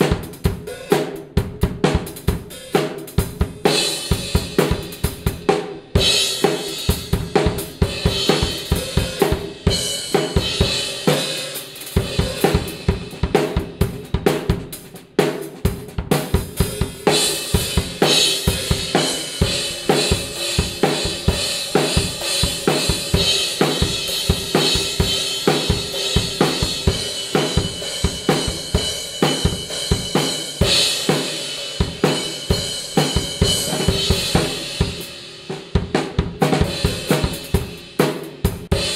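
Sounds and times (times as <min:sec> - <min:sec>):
drum kit groove: 0:00.0 - 0:38.9.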